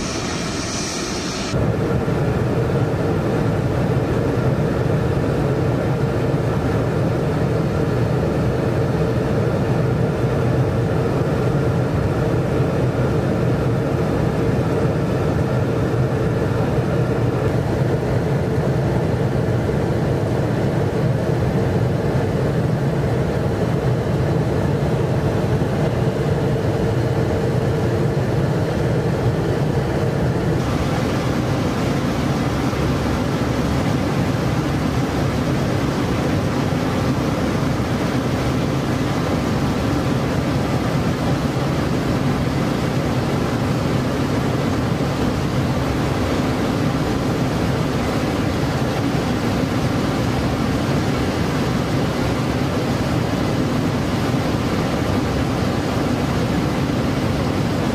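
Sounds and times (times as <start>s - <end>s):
jet aircraft cabin drone: 0.0s - 57.9s.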